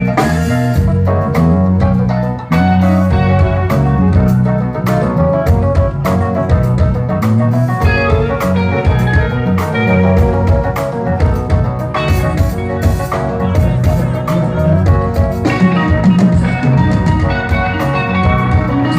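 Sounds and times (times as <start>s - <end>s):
guitar melody: 0.0s - 18.9s
keyboard melody: 0.0s - 18.9s
steady drum beat: 0.0s - 18.9s
walking bass line: 0.0s - 18.9s.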